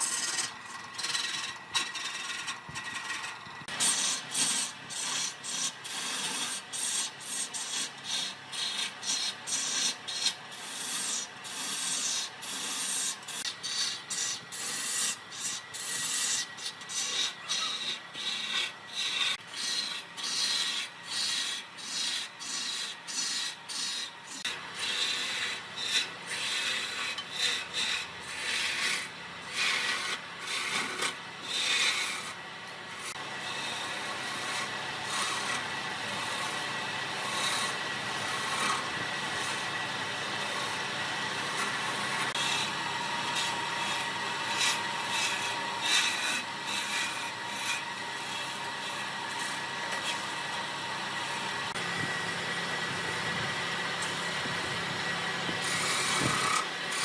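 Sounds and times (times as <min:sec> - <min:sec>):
abrasive rubbing on workpiece: 0:00.0 - 0:57.0.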